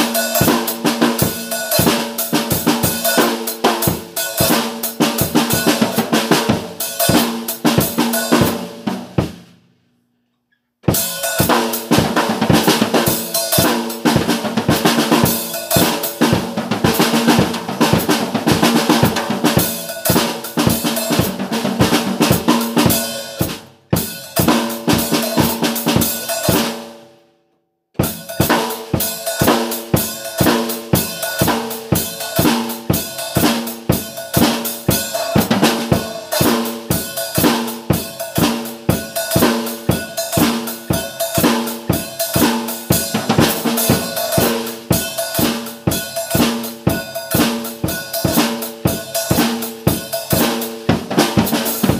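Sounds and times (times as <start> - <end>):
drum kit playing a beat: 0.0 - 9.7, 10.8 - 27.0, 28.0 - 51.9.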